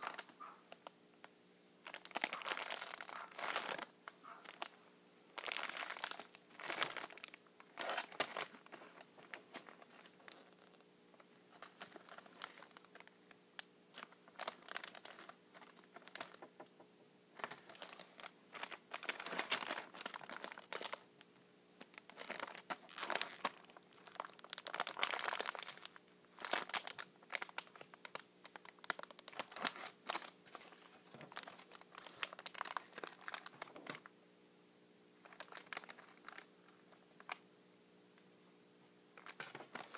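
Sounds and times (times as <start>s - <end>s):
packaging crinkling and tearing: 0.0s - 0.9s, 1.8s - 4.7s, 5.4s - 10.8s, 11.5s - 16.5s, 17.4s - 34.1s, 35.2s - 36.5s, 39.2s - 39.9s.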